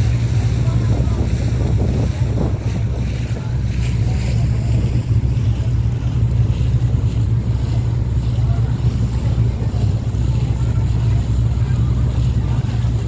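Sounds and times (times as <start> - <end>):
boat engine low drone: 0.0 - 13.0
water rushing past hull: 0.0 - 13.0
wind on microphone: 0.0 - 13.0.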